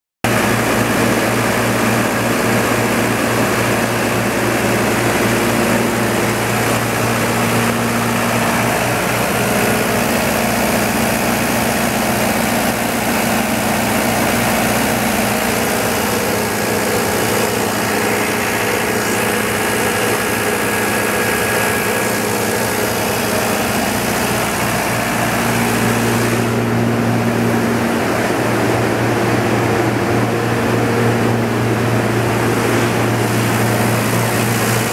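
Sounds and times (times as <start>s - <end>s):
diesel generator humming: 0.2s - 34.9s.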